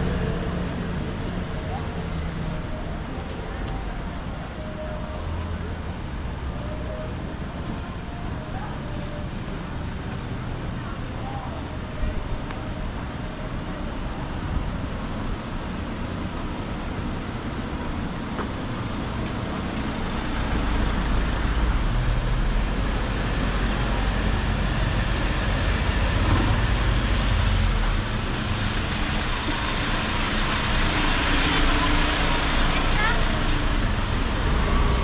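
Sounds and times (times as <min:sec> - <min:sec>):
street traffic noise: 0:00.0 - 0:35.0
vehicle engine rumble: 0:00.0 - 0:35.0.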